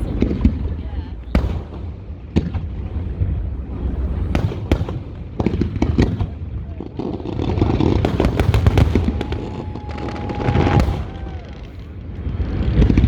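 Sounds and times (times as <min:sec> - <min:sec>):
fireworks bangs: 0:00.0 - 0:13.0
fireworks crackling: 0:00.0 - 0:13.0
low rumble: 0:00.0 - 0:13.0.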